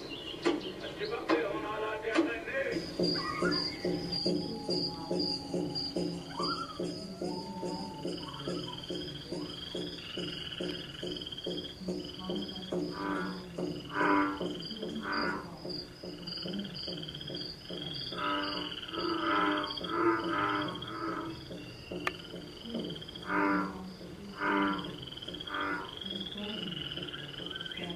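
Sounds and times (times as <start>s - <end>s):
frogs croaking: 0.0s - 27.9s
frogs trilling: 0.0s - 27.9s.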